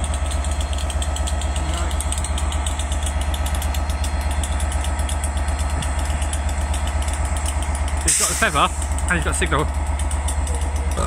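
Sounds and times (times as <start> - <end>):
diesel locomotive idling: 0.0 - 11.0.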